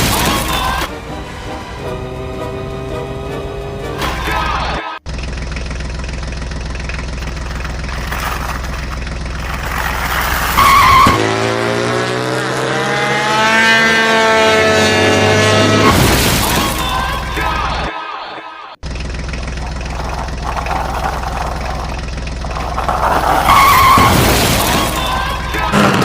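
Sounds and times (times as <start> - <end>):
vehicle engine revving: 0.0 - 17.9, 18.8 - 26.0.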